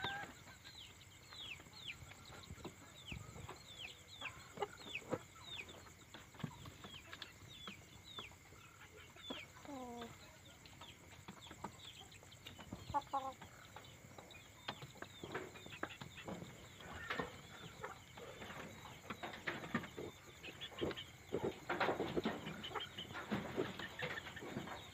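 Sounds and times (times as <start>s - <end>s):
chicken clucking: 0.0s - 24.9s.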